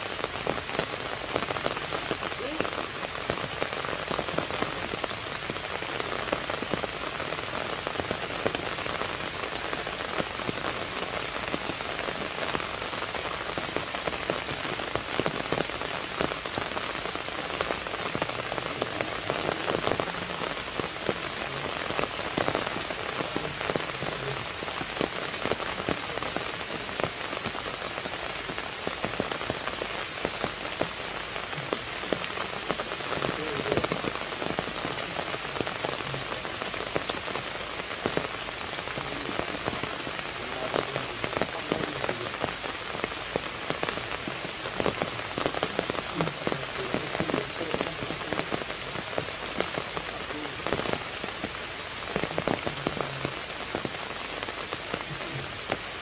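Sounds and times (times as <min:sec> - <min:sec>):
heavy rain falling: 0:00.0 - 0:56.0
raindrops ticking close by: 0:00.0 - 0:56.0.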